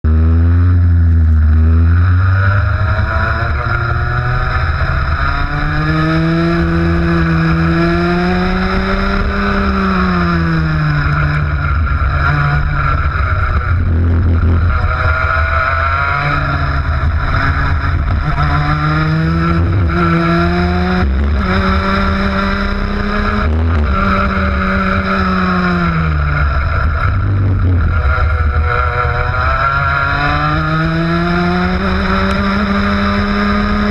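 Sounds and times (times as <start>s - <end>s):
kart engine at racing speed: 0.0s - 33.9s.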